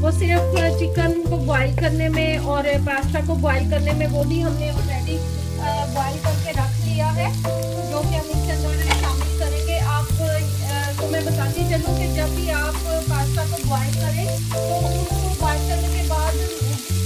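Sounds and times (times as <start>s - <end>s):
background music with bass: 0.0s - 17.0s
onions sizzling in a frying pan: 0.0s - 17.0s.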